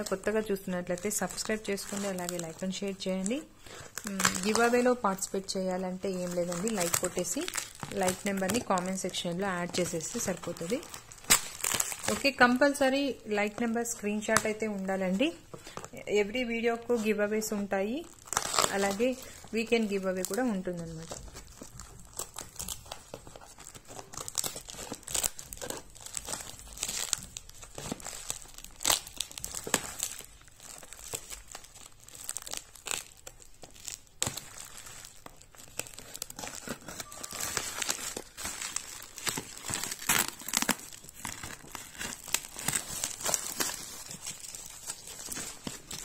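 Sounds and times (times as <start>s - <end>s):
plastic wrap crinkling: 0.0s - 46.0s.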